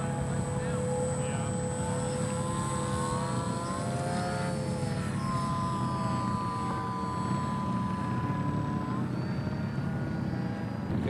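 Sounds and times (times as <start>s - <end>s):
electric model plane motor whine: 0.0s - 11.0s.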